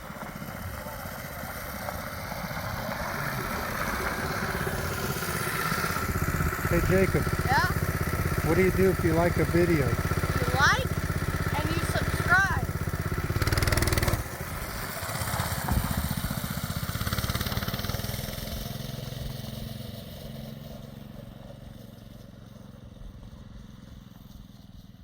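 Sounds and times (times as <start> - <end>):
pickup truck engine running: 0.0 - 24.8.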